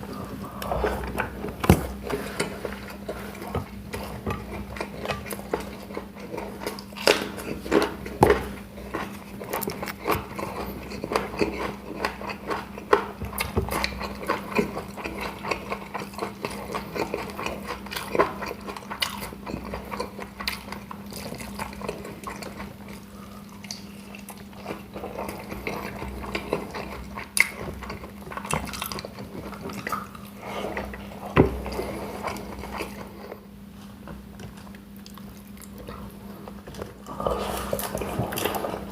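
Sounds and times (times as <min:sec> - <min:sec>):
person chewing and biting food: 0:00.4 - 0:33.2
sharp eating clicks and smacks: 0:00.6 - 0:33.4, 0:34.4 - 0:38.9.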